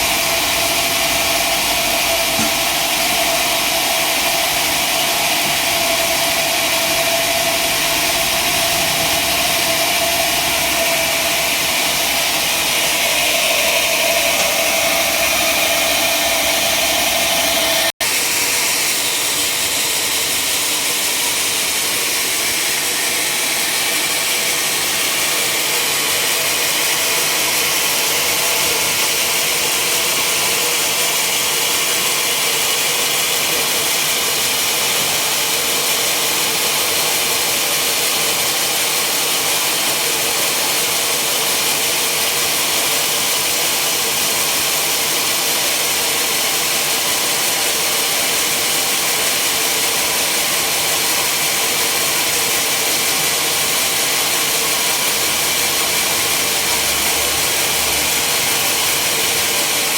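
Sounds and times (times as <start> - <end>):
sawmill saw hissing: 0.0 - 59.9.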